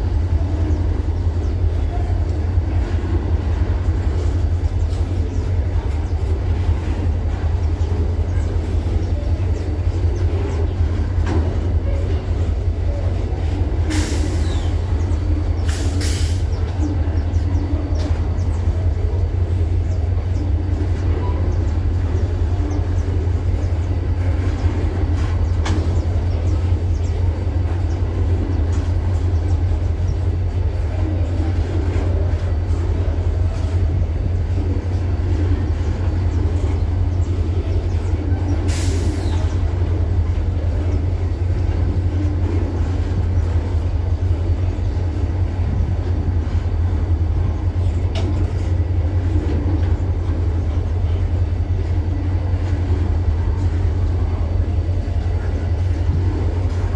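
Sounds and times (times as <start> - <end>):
train rumbling: 0.0 - 56.9.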